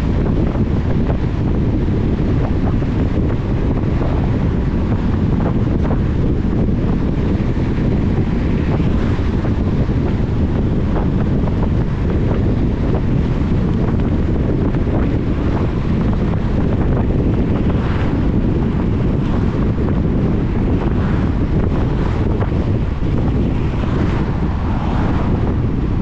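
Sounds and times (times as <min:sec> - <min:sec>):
car driving on wet road: 0:00.0 - 0:26.0.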